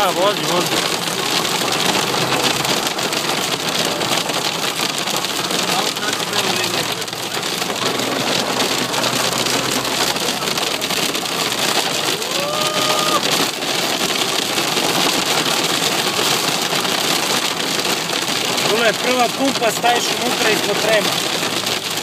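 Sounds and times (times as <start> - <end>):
heavy rain on car roof: 0.0 - 22.0.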